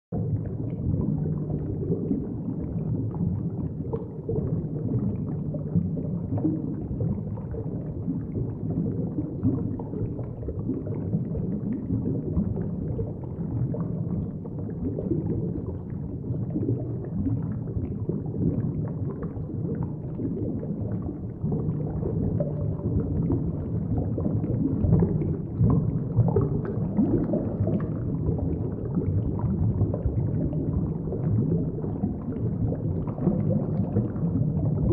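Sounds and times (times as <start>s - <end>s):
muffled underwater water churning: 0.1s - 34.9s.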